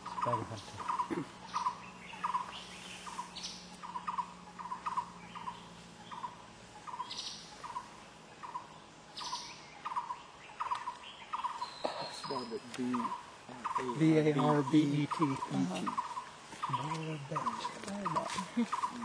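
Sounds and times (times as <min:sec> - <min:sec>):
barbet calling: 0:00.0 - 0:19.0
bird chirps: 0:00.0 - 0:19.0.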